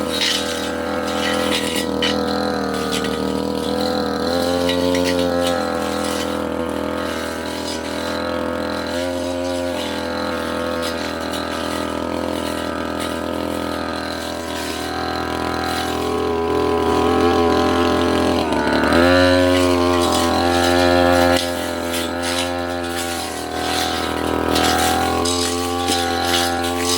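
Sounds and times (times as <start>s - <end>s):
brush cutter engine running: 0.0s - 26.9s.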